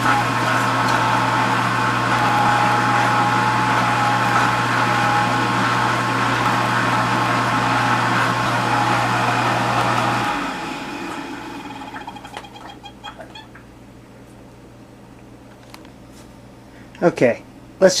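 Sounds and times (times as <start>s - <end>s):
dishwasher motor hum and hiss: 0.0s - 17.1s.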